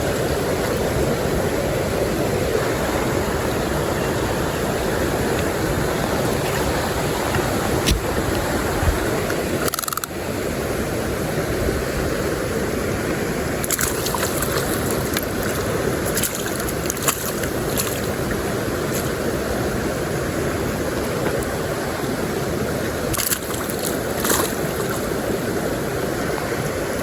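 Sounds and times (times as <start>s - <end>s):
stream flowing over rocks: 0.0s - 27.0s.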